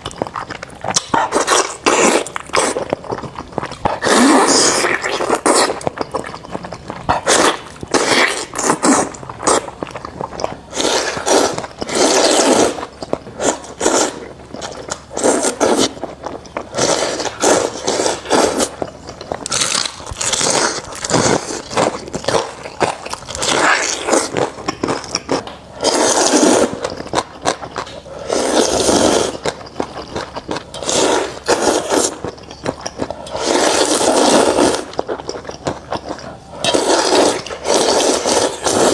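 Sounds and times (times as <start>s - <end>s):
loud bites and chewing: 0.0s - 38.9s.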